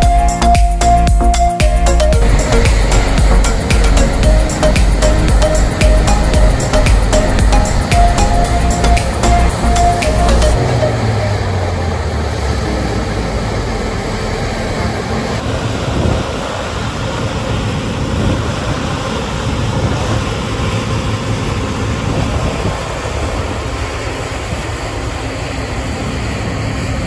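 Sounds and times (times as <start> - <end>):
diesel engines running: 0.0 - 27.0.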